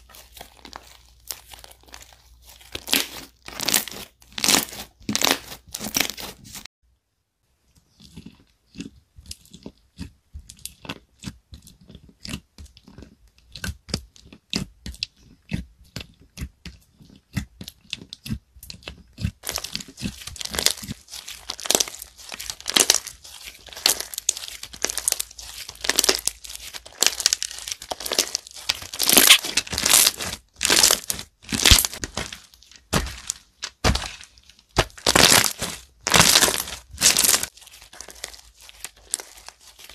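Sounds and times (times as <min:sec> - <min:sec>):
slime crackling and popping: 0:00.0 - 0:06.7, 0:09.3 - 0:39.9.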